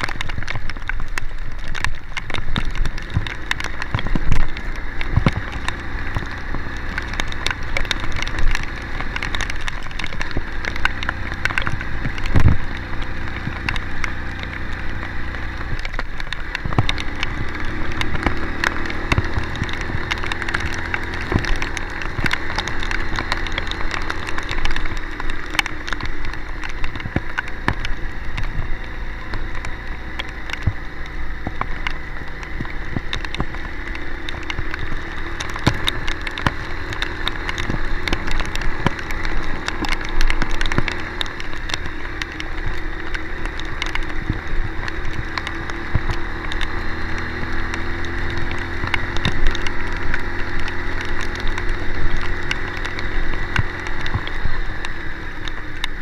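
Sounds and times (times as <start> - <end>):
rain spattering: 0.0 - 56.0
sharp clicks and knocks: 0.0 - 56.0
steady rushing noise: 0.0 - 56.0
vehicle engine running: 0.0 - 56.0.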